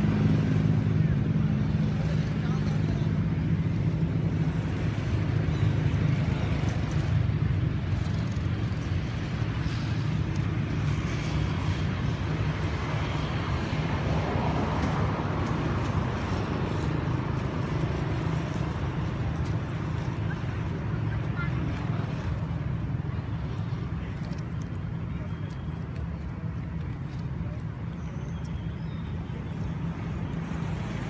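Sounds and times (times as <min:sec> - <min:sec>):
low engine rumble: 0:00.0 - 0:31.0.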